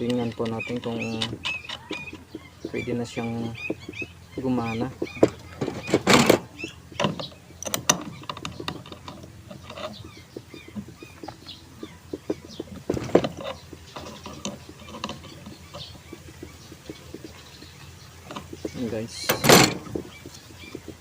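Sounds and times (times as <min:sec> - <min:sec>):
fan parts clicking and rattling: 0:00.0 - 0:21.0.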